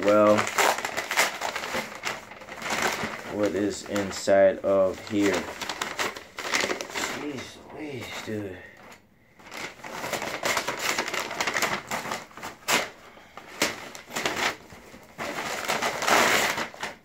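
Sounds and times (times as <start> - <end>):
paper tearing: 0.0 - 4.2, 4.8 - 8.4, 9.5 - 17.0
paper rustling and crinkling: 0.0 - 17.0.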